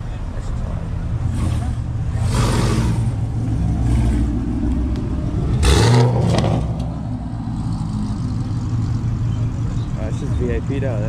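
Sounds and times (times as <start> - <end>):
car engine humming: 0.0 - 11.0
engine and exhaust surges: 0.0 - 11.0.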